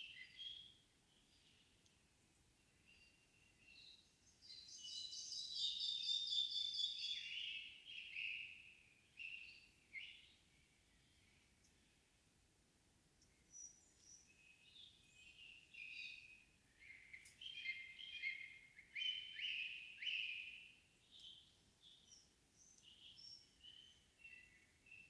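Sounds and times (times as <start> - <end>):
songbirds singing: 0.0 - 12.2, 13.2 - 25.0.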